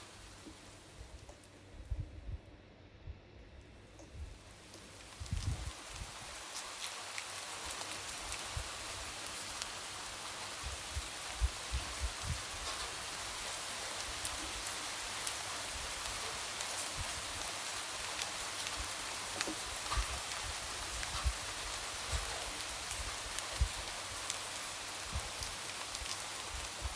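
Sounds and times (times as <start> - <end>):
raindrops ticking and tapping: 0.0 - 1.6, 3.9 - 26.9
falling rain hiss: 0.0 - 1.9, 3.8 - 26.9.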